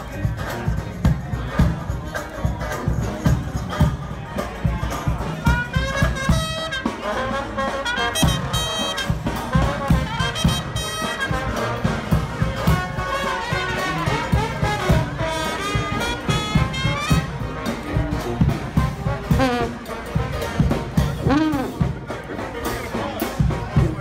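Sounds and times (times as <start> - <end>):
steady drum beat: 0.0 - 24.0
trombone: 0.0 - 24.0
trumpet: 0.0 - 24.0.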